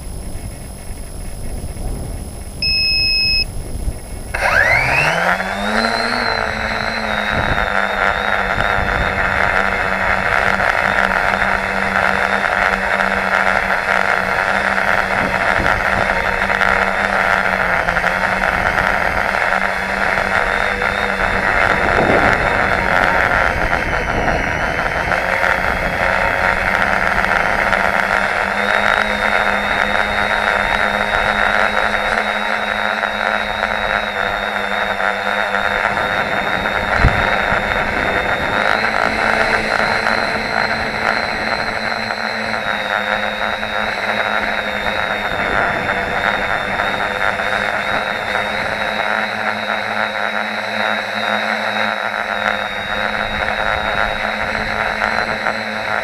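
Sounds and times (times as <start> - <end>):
drone motors buzzing and whining: 0.0 - 56.0.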